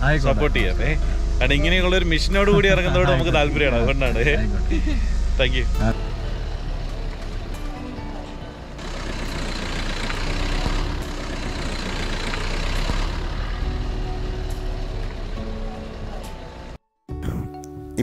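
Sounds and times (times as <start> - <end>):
car engine rumble: 0.0 - 16.8
road and tyre noise: 0.0 - 16.8.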